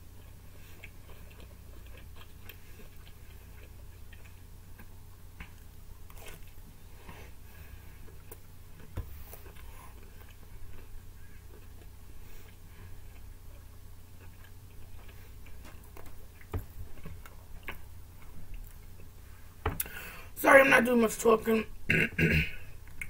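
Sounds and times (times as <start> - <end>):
steady low hum: 0.0 - 23.0
person chewing pizza: 0.1 - 20.0.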